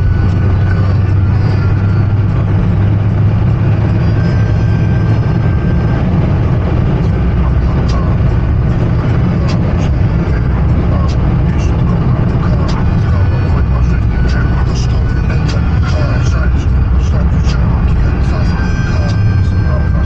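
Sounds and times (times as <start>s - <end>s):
car engine and road drone: 0.0s - 20.0s.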